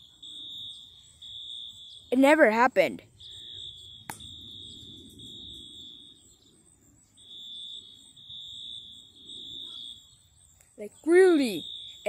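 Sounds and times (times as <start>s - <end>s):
fire alarm tone: 0.0s - 2.3s, 3.0s - 10.3s, 11.2s - 12.0s.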